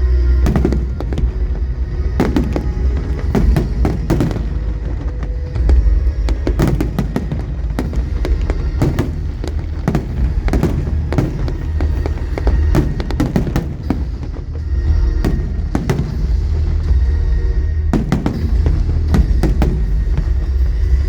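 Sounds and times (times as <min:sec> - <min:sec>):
fireworks bursting with sharp bangs: 0:00.0 - 0:17.0, 0:17.7 - 0:21.0
low rumble: 0:00.0 - 0:21.0.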